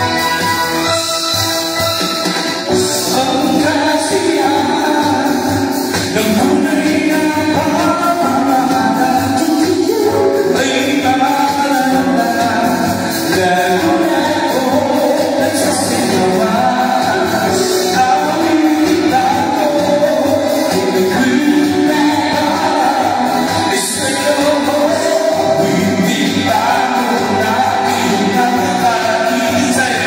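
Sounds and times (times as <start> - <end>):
amplified backing music: 0.0 - 30.0
person singing into microphone: 0.0 - 30.0.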